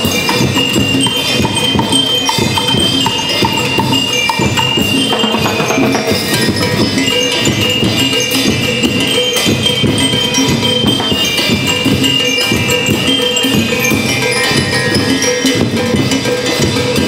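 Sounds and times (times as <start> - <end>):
bell lyres ringing melody: 0.0 - 17.0
drum beat: 0.0 - 17.0
jingling tambourine: 0.0 - 17.0.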